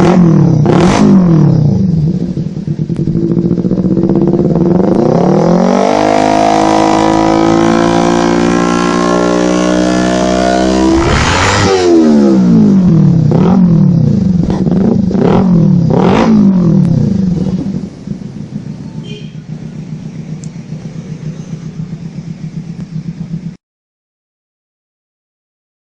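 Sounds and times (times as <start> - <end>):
motorcycle engine revving and idling: 0.0 - 23.6.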